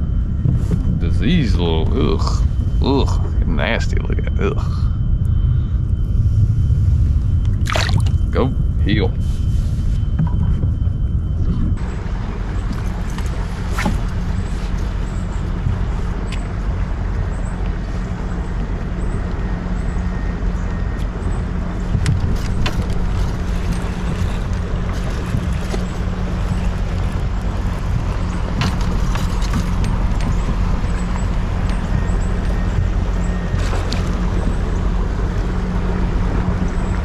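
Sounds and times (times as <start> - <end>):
low motor hum: 0.0 - 37.0.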